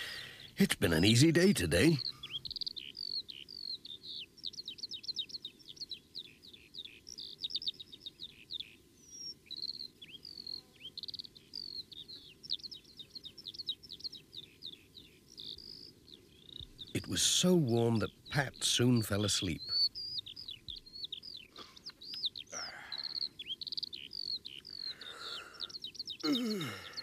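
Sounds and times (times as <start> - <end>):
bird chirping and trilling: 0.0 - 27.0.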